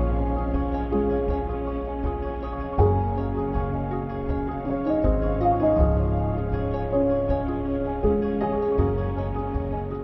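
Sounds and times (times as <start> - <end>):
sustained instrumental chords: 0.0 - 10.0.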